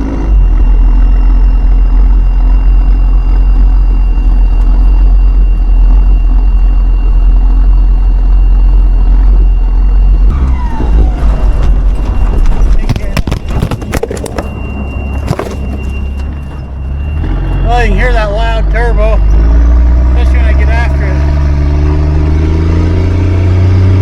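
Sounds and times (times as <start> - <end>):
diesel truck engine droning: 0.0 - 24.0
turbo whine: 0.0 - 24.0.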